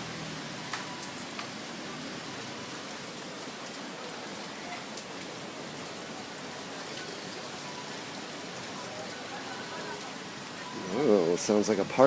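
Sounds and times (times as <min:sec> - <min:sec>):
heavy rain pouring: 0:00.0 - 0:12.0
raindrop ticks: 0:00.4 - 0:01.8, 0:02.4 - 0:12.0.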